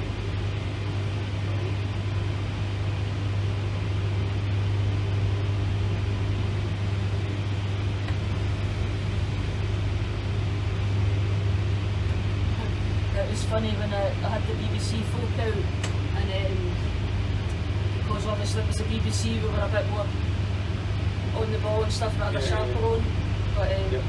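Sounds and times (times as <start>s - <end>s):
low electric hum: 0.0s - 24.0s.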